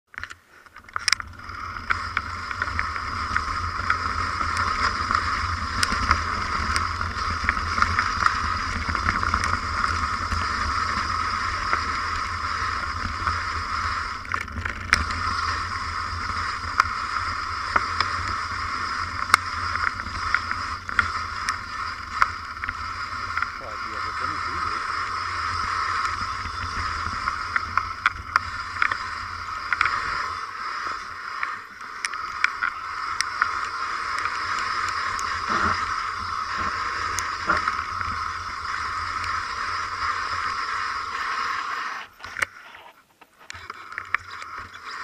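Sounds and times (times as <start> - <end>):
bike rattling over stones: 0.1 - 45.0
wind and tyre noise: 0.1 - 45.0.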